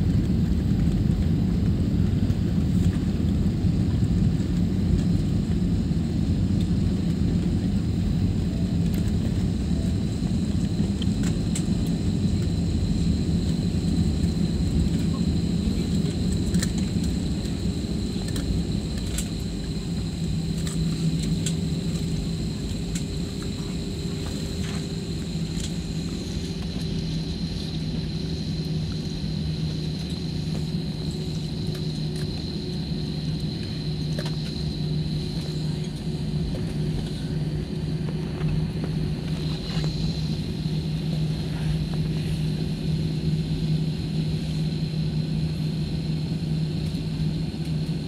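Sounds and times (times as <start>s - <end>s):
jet engines and wheels rumbling: 0.0s - 48.0s
faint high whine: 2.8s - 48.0s.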